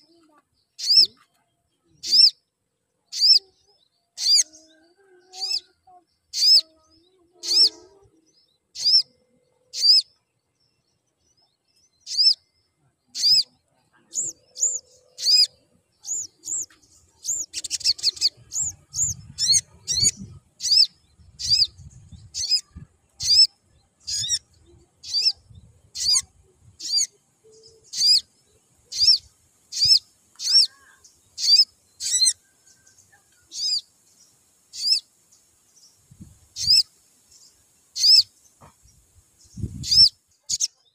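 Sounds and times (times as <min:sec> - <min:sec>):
sunbird high sweeping chirps: 0:00.0 - 0:01.2, 0:02.0 - 0:02.4, 0:03.1 - 0:04.7, 0:05.3 - 0:10.2, 0:11.9 - 0:13.5, 0:14.1 - 0:40.9.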